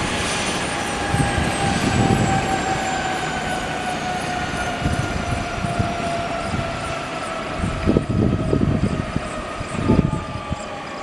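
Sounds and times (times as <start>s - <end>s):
gusty low rumbling: 0.0s - 3.1s, 3.9s - 10.8s
helicopter turbines spooling down: 0.0s - 11.0s.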